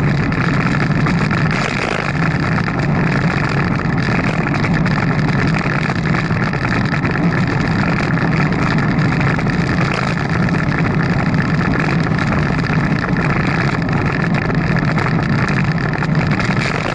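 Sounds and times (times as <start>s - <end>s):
tyres rolling on road: 0.0s - 16.9s
wind on microphone: 0.0s - 16.9s.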